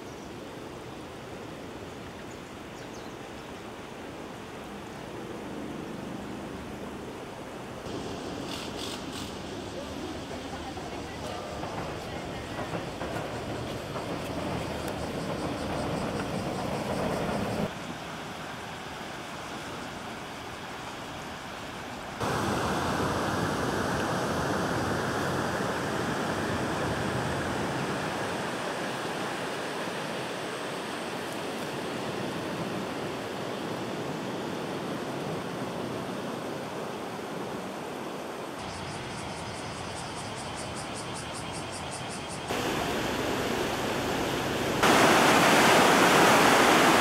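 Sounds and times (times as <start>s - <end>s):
river water rushing: 0.4s - 38.6s, 42.5s - 47.0s.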